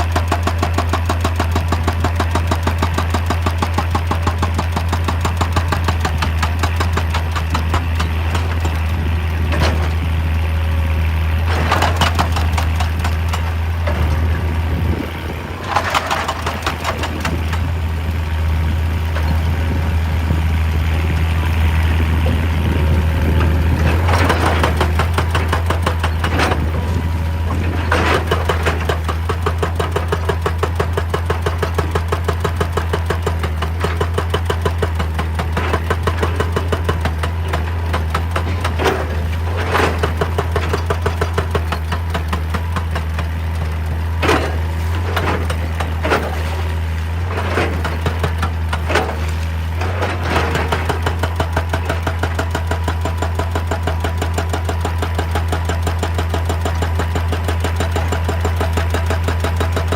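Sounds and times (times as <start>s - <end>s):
excavator diesel engine pulsing: 0.0s - 59.9s.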